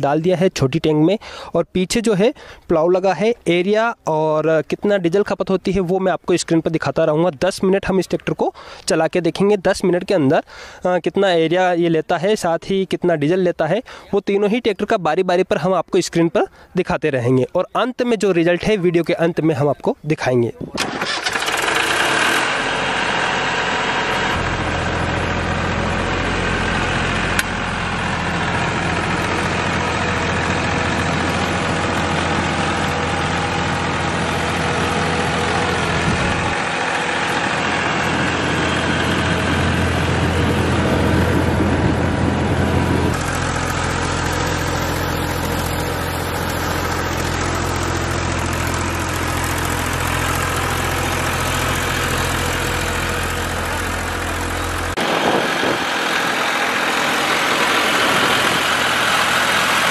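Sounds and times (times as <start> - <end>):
tractor diesel engine under load: 0.0 - 14.9, 20.7 - 59.9.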